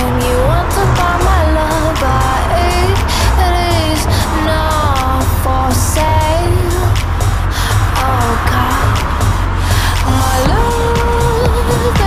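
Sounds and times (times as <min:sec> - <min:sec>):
pop music with heavy bass: 0:00.0 - 0:12.0.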